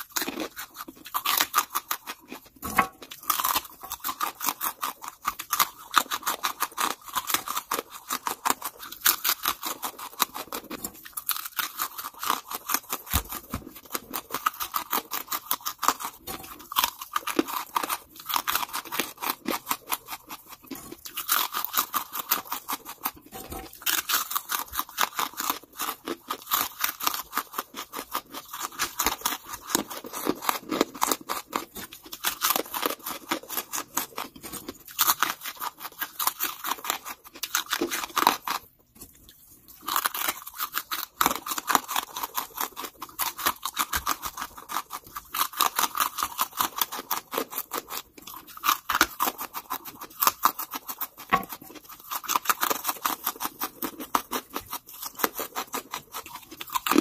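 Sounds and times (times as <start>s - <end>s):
charcoal crunching while chewed: 0.0s - 57.0s.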